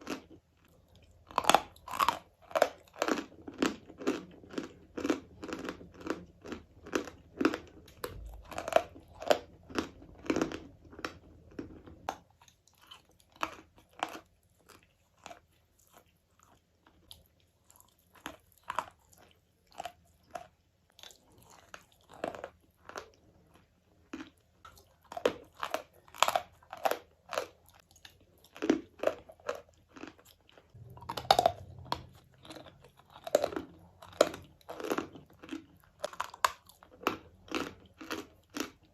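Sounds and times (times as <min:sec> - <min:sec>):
chewing chalk crunches: 0:00.0 - 0:38.9.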